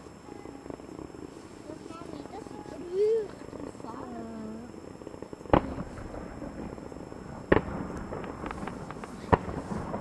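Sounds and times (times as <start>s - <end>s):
fireworks bangs: 0.0s - 10.0s
fireworks crackle: 0.0s - 10.0s
small fireworks pops: 0.0s - 10.0s.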